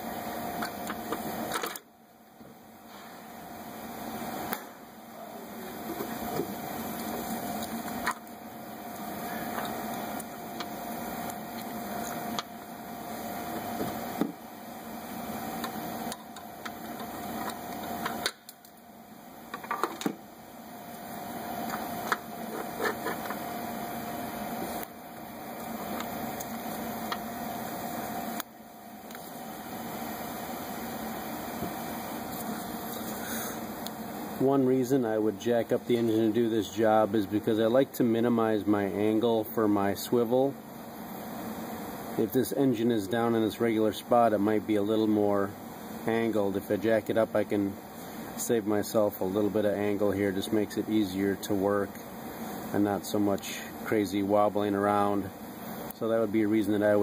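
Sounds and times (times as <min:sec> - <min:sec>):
steady hum with faint whine: 0:00.0 - 0:57.0.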